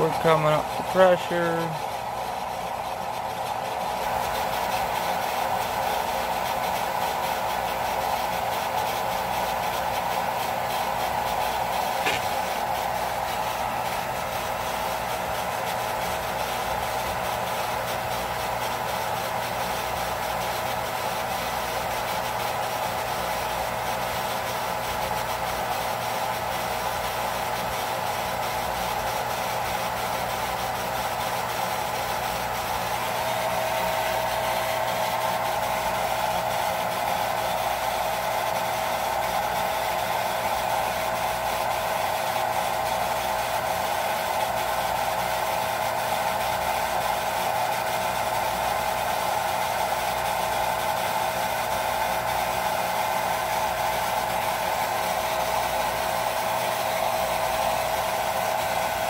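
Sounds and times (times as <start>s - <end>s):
water pump motor whining: 0.0s - 59.0s.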